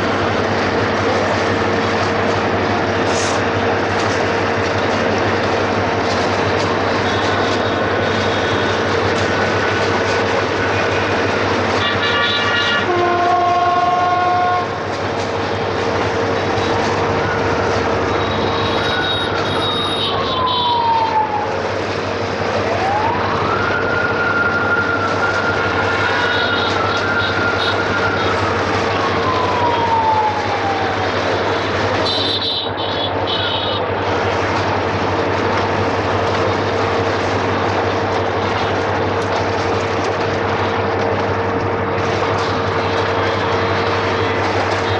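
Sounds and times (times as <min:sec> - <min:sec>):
locomotive engine drone: 0:00.0 - 0:44.9.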